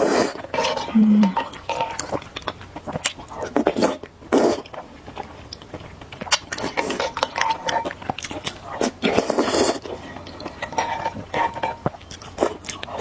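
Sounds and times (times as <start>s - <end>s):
noodle slurping and chewing: 0.0s - 13.0s.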